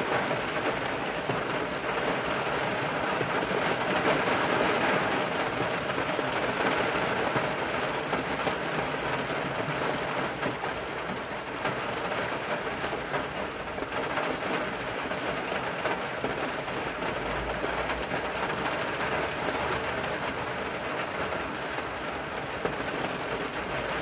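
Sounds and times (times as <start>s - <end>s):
rain on car roof: 0.0s - 24.0s.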